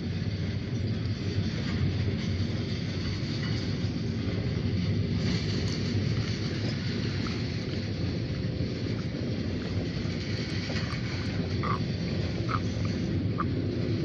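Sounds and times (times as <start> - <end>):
diesel train rumbling: 0.0 - 14.0
wind buffeting microphone: 0.0 - 14.0.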